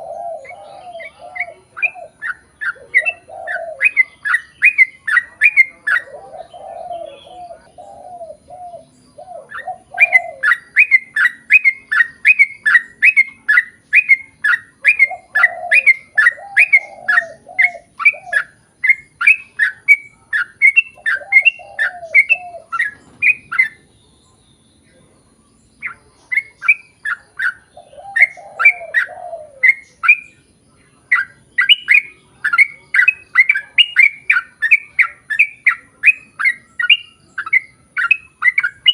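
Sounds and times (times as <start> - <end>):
bird chattering song: 0.0 - 38.9
soft warbled bird notes: 0.0 - 38.9.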